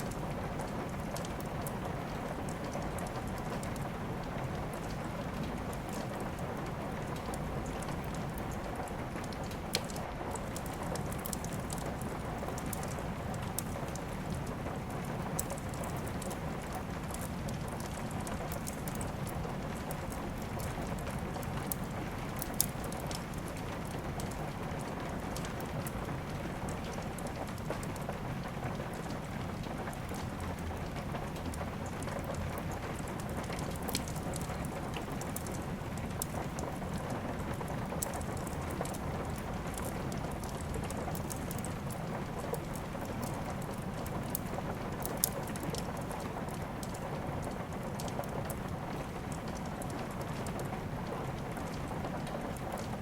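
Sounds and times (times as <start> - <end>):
steady rain falling: 0.0 - 53.0
wood fire crackling: 0.0 - 53.0.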